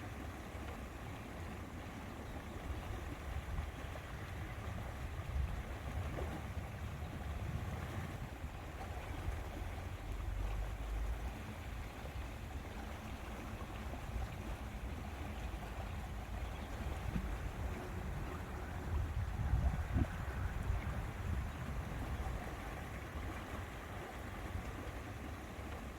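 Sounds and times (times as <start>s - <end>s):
wind rumble on microphone: 2.5s - 25.0s.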